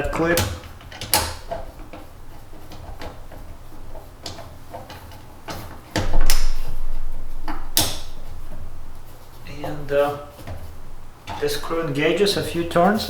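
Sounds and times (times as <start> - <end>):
scraping clatter of plastic: 0.0 - 13.0.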